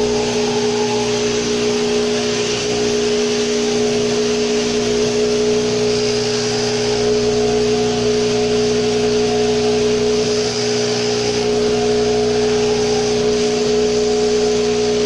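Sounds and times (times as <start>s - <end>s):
shearing handpiece humming: 0.0s - 15.0s.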